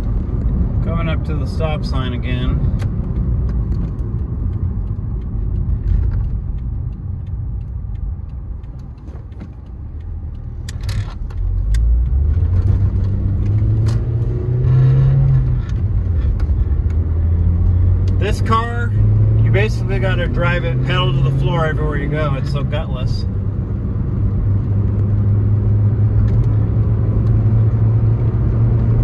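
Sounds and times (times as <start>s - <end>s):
car engine: 0.0s - 29.0s
road noise inside car: 0.0s - 29.0s.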